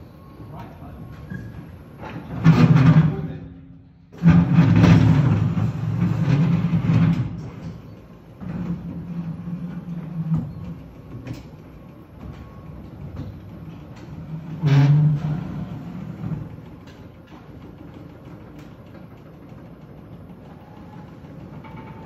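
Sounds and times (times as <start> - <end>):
bleachers rolling on concrete floor: 0.0 - 22.0.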